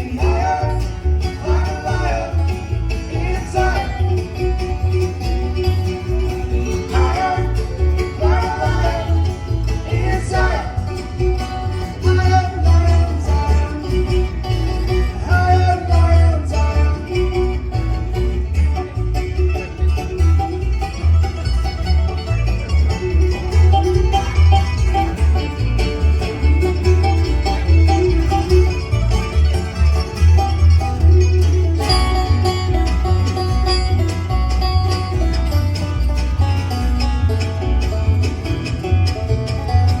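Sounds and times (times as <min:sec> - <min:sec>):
instrumental country band music: 0:00.0 - 0:40.0.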